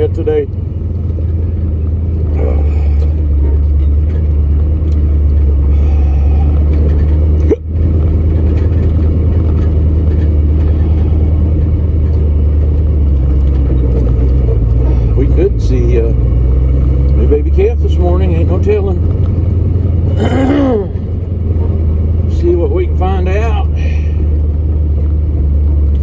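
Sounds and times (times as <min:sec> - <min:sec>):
truck engine rumbling: 0:00.0 - 0:26.0.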